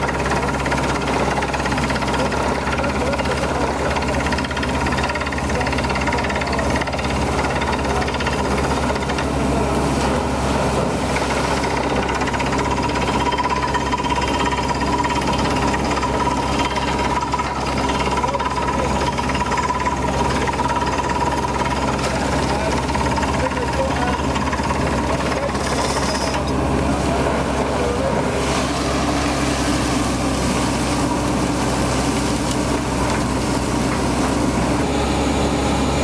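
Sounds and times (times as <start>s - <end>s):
drilling rig running: 0.0s - 36.0s.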